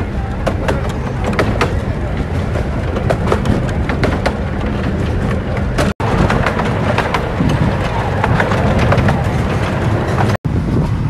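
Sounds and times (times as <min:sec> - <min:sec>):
moving train rumble: 0:00.0 - 0:11.0
wheel and carriage clicks: 0:00.0 - 0:11.0.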